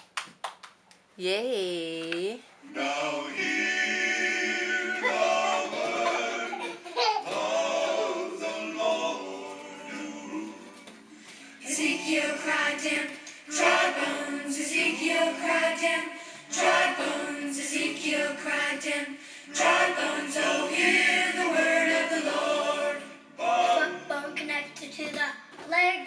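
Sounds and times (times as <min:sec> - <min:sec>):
voices singing together: 0:02.6 - 0:24.5.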